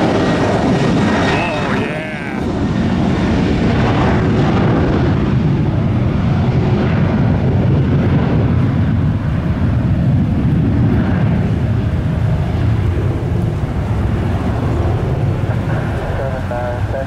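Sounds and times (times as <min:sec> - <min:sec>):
jet engines at takeoff thrust: 0:00.0 - 0:17.0.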